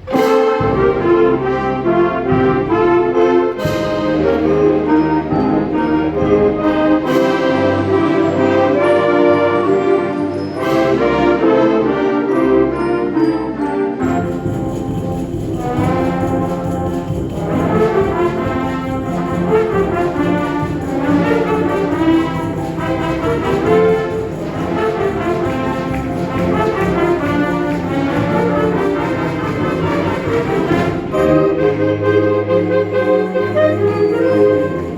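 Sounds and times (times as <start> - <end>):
wind band playing: 0.0 - 34.9.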